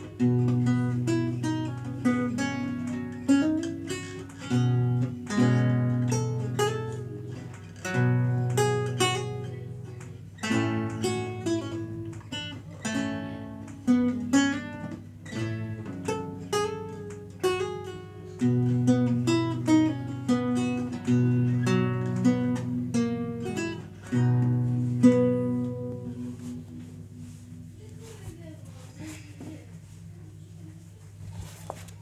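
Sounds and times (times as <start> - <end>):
solo lute playing: 0.0 - 27.4.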